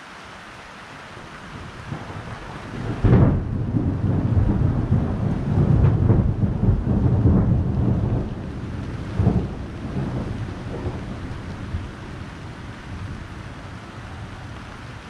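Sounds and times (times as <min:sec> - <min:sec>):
steady rain: 0:00.0 - 0:15.0
thunder cracking and rumbling: 0:01.5 - 0:15.0.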